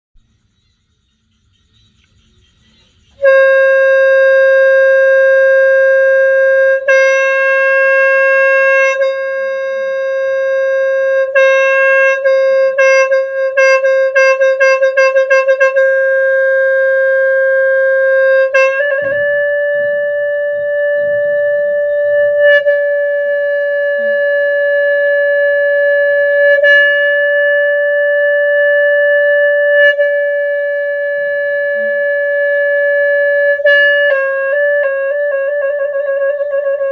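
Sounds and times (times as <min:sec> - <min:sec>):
horn blown with reedy note: 0:02.8 - 0:36.9.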